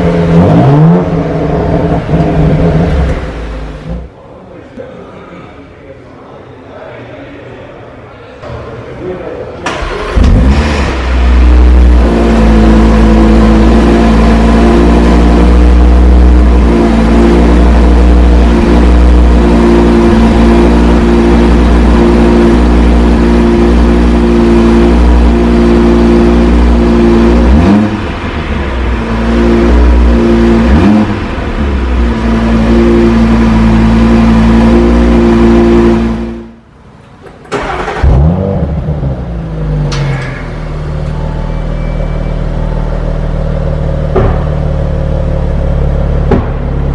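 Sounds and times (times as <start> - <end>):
car engine revving: 0.0 - 4.2, 9.7 - 36.7, 37.5 - 46.9.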